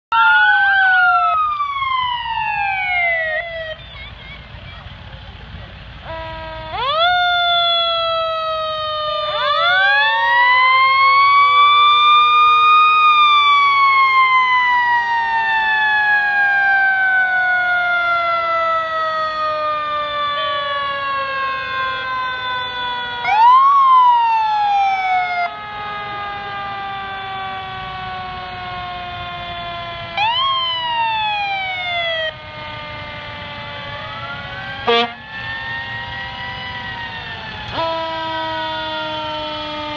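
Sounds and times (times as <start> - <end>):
fire engine sirens wailing: 0.1 - 39.9.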